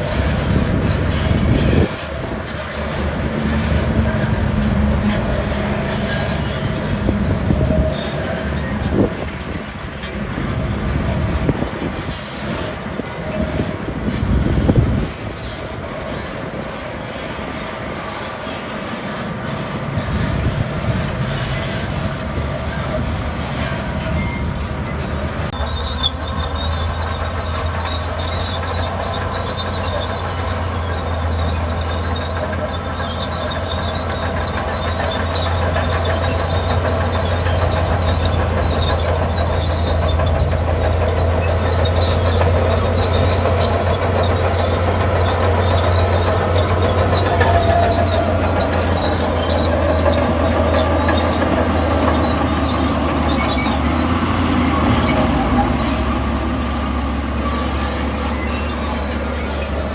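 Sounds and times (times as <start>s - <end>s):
bulldozer engine under load: 0.0s - 59.9s
steel tracks squealing and clanking: 0.0s - 59.9s.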